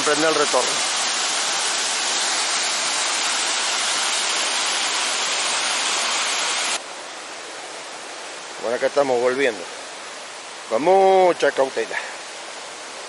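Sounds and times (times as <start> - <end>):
quiet steady hiss: 0.0 - 13.0
waterfall roaring: 0.0 - 13.0.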